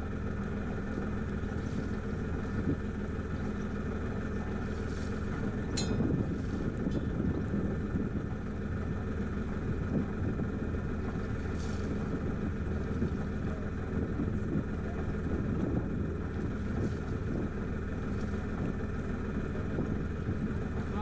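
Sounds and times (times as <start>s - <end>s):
boat engine humming: 0.0s - 21.0s
wind noise on microphone: 0.8s - 21.0s.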